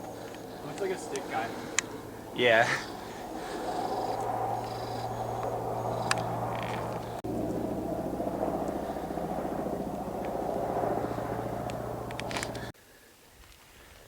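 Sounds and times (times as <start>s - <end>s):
low mechanical drone pulsing: 0.0s - 12.7s.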